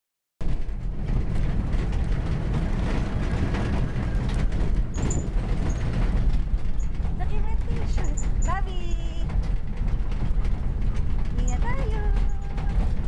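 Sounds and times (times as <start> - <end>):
engine and road rumble: 0.4 - 13.0
vehicle rattling knocks: 0.4 - 13.0.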